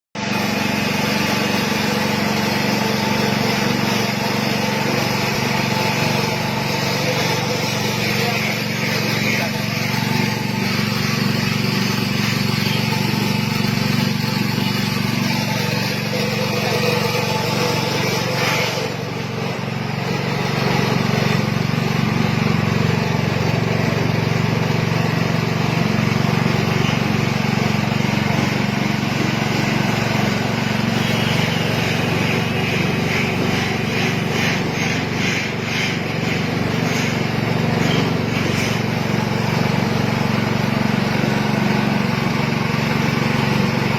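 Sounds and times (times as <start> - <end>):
machine motor humming: 0.2 - 43.9.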